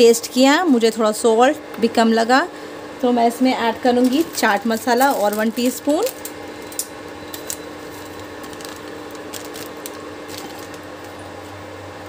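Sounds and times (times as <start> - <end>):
induction cooktop hum: 0.0 - 12.0.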